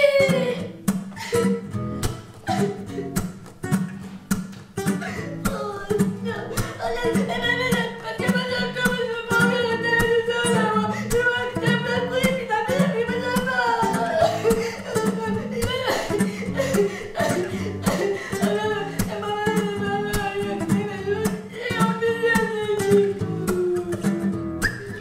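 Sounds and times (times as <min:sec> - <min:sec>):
person singing: 0:00.0 - 0:01.7, 0:04.8 - 0:25.0
acoustic guitar strumming: 0:00.0 - 0:25.0.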